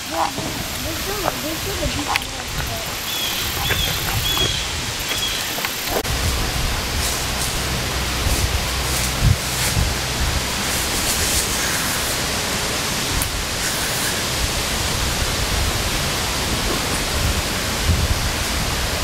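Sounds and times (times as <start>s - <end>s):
wind buffeting microphone: 0.0s - 19.0s
wind through trees: 0.0s - 19.0s.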